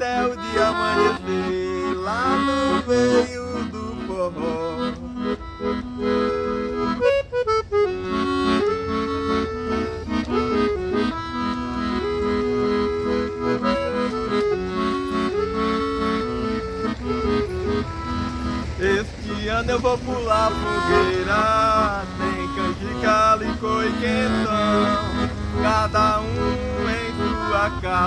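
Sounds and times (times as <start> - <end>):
accordion melody: 0.0 - 28.0.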